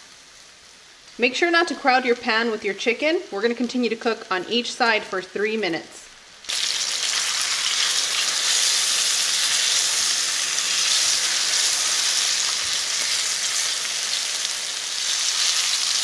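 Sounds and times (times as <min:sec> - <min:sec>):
chicken sizzling in skillet: 0:00.0 - 0:16.0.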